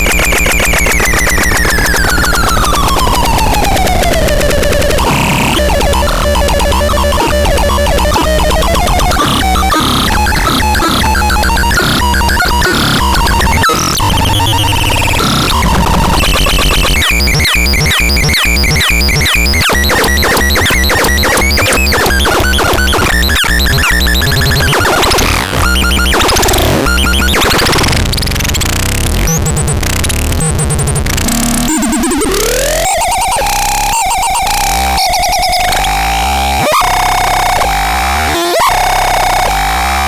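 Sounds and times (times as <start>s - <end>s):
harsh synthesizer noise: 0.0s - 40.0s.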